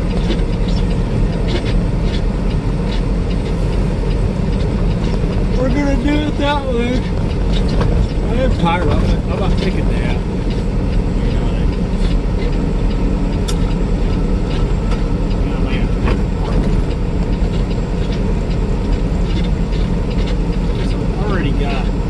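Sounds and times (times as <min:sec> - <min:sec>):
truck engine and road noise: 0:00.0 - 0:22.0.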